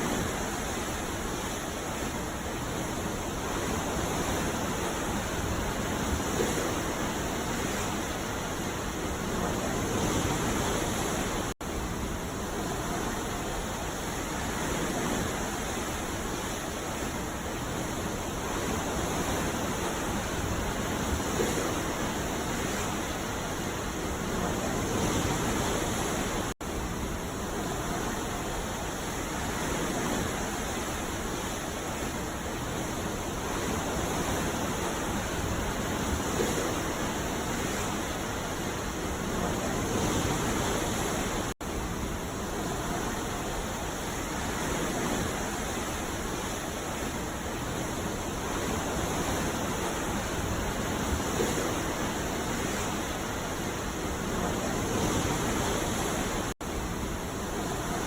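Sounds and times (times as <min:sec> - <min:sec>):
ocean surf washing on a beach: 0:00.0 - 0:58.0.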